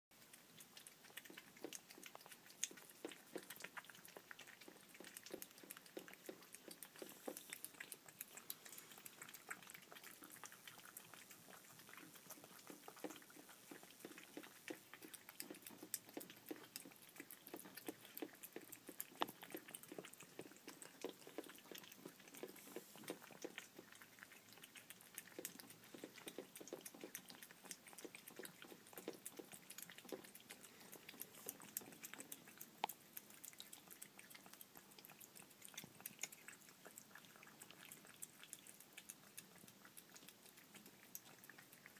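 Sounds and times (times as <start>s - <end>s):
cats chewing wet food: 0.1s - 41.9s.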